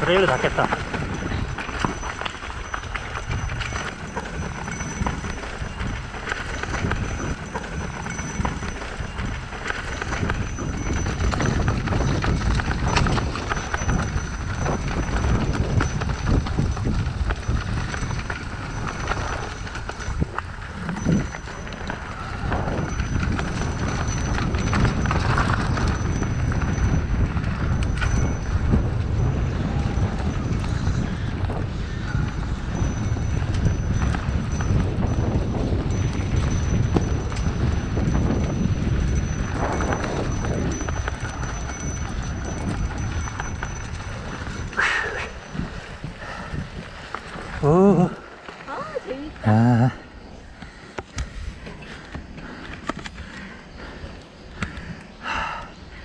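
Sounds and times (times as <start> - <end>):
bike rattling and clattering: 0.0 - 56.0
bike tyres rumbling on dirt: 0.0 - 56.0.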